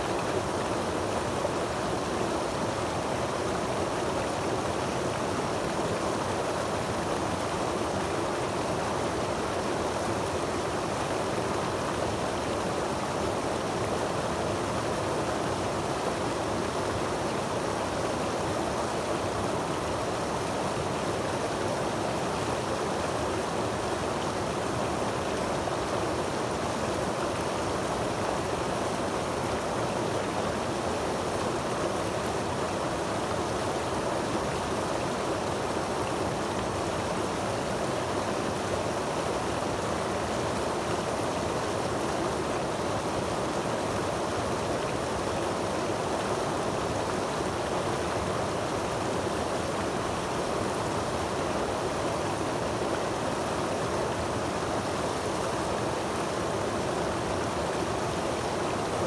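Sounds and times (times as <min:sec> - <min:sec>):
creek water rushing over rocks: 0:00.0 - 0:59.0.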